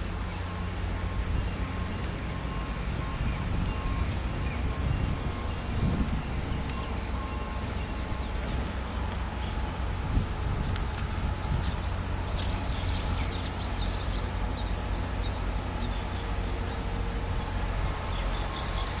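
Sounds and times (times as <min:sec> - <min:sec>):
steady low rumble: 0:00.0 - 0:19.0
small birds chirping: 0:03.2 - 0:19.0.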